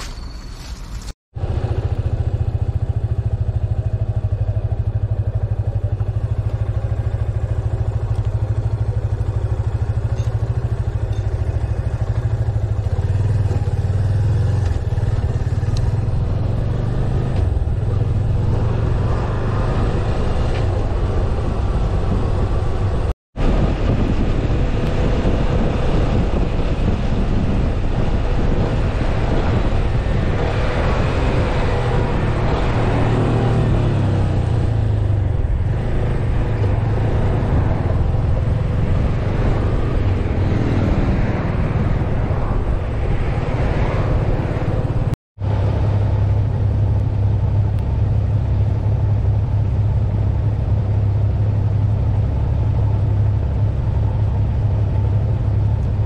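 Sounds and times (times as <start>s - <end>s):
motorcycle engine running: 0.0s - 56.0s
wind: 0.0s - 56.0s.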